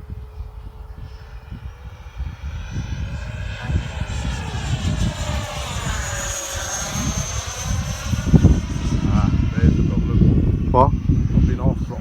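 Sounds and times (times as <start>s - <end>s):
model jet whining: 0.0s - 12.0s
wind buffeting microphone: 0.0s - 12.0s.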